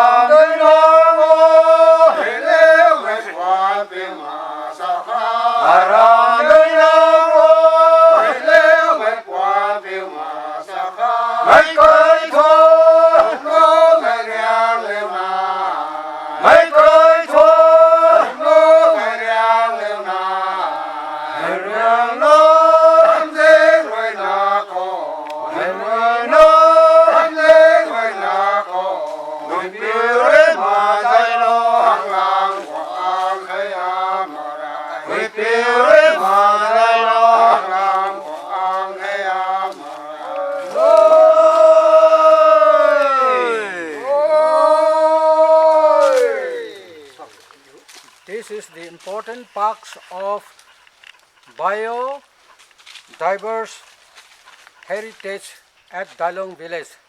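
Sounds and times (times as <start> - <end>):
men singing a folk song: 0.0 - 50.6.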